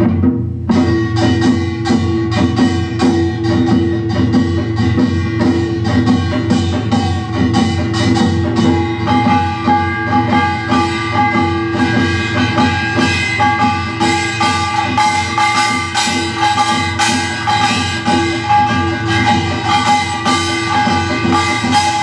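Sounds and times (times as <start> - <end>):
fast dense percussion: 0.0 - 22.0
sustained ringing tones: 0.8 - 22.0.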